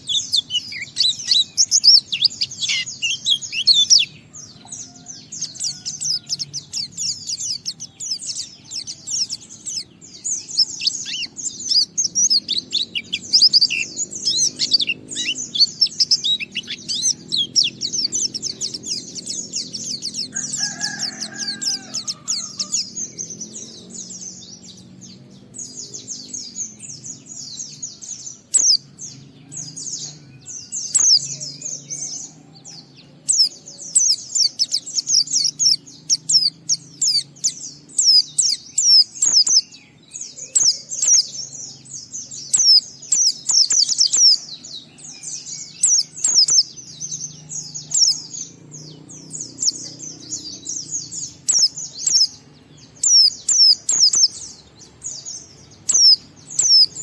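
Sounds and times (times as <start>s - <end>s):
bird singing twittering song: 0.0s - 57.0s.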